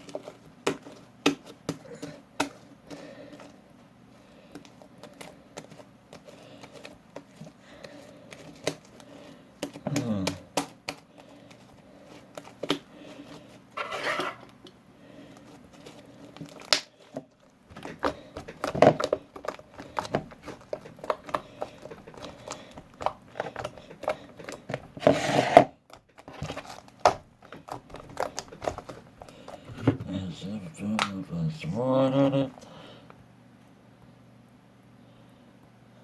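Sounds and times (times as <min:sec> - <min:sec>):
clicks taps and crinkling: 0:00.0 - 0:13.8, 0:14.4 - 0:25.1, 0:25.8 - 0:31.4.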